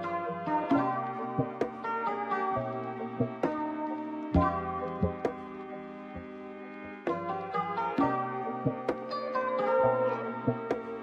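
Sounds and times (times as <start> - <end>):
plucked-string tune: 0.0 - 11.0.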